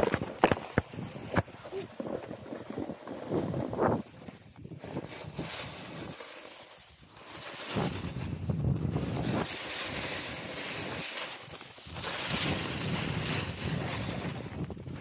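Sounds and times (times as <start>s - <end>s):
snowboard scraping across snow: 0.2s - 15.0s.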